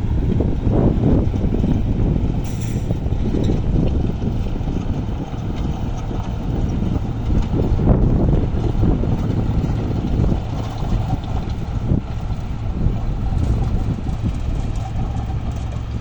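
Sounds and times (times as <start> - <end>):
earthmoving machinery droning: 0.0 - 16.0.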